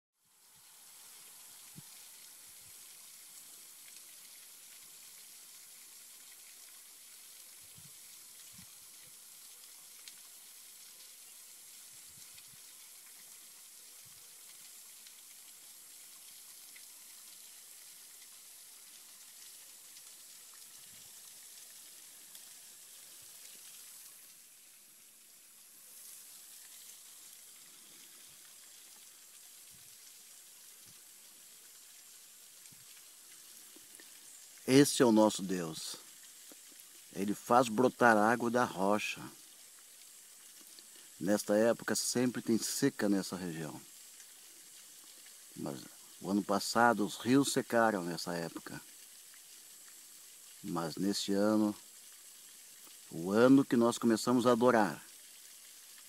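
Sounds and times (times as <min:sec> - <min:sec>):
water trickling down rock: 0:00.3 - 0:56.0.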